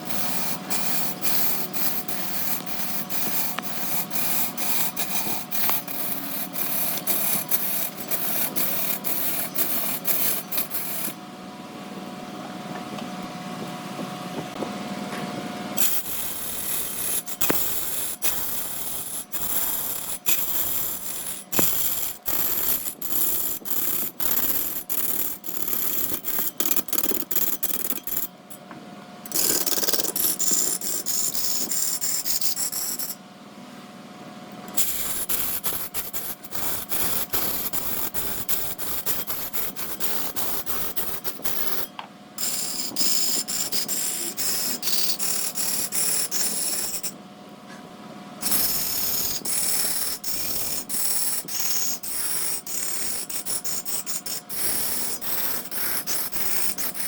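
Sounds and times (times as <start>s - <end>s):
wood lathe tool scraping: 0.0s - 11.2s, 15.8s - 28.4s, 29.3s - 33.2s, 34.7s - 47.2s, 48.4s - 57.0s
faint steady hum: 0.0s - 57.0s.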